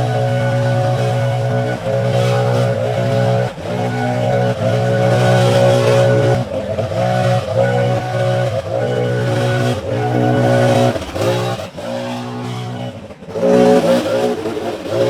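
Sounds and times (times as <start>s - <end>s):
small gas engine revving: 0.0s - 15.0s.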